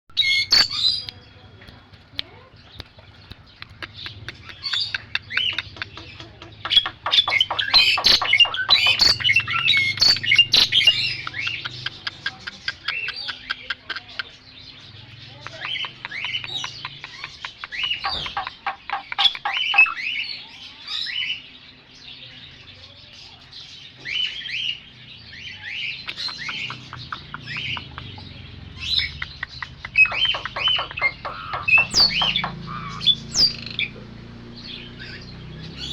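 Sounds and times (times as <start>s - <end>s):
bird chirping: 0.1s - 35.9s.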